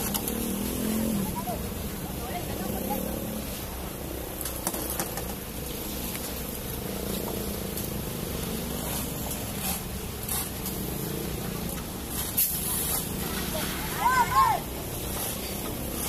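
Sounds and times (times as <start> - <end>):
rakes scraping wet concrete: 0.0 - 16.0.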